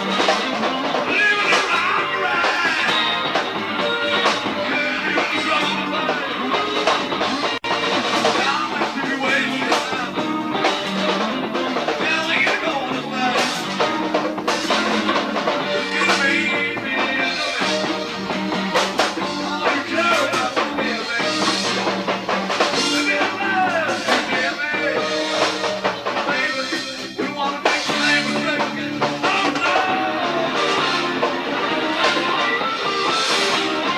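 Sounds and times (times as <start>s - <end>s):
bass guitar: 0.0s - 33.9s
drum kit: 0.0s - 33.9s
electric guitar: 0.0s - 33.9s.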